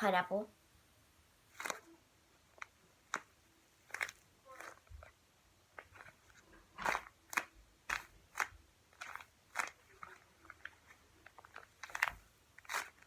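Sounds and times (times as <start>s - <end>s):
taped paper crinkling: 1.5s - 13.0s.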